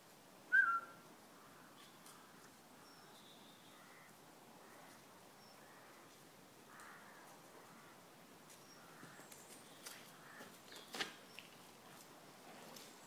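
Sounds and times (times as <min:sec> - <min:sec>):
distant bird calls: 0:00.5 - 0:11.6.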